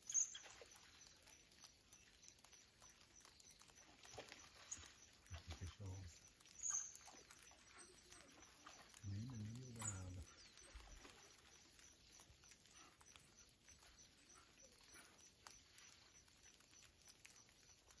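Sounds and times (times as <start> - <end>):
small ticks: 0.0 - 18.0.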